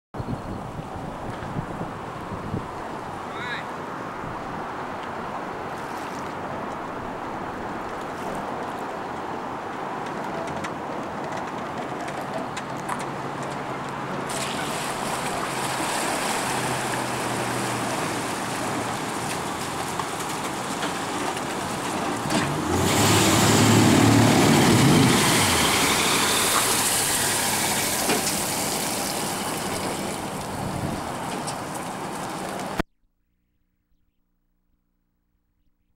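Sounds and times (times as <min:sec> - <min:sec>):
boat engines humming: 0:00.6 - 0:32.8.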